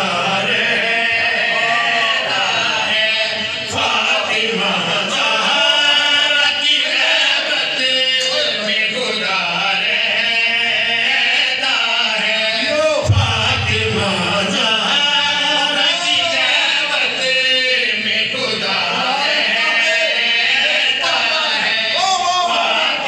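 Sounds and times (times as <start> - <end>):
man chanting into microphone: 0.0 - 23.0.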